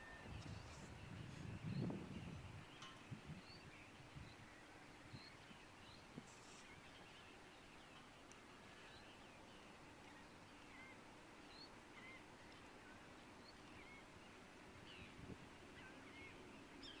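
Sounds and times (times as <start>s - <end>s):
birds chirping: 0.0s - 17.0s
steady hiss: 0.0s - 17.0s.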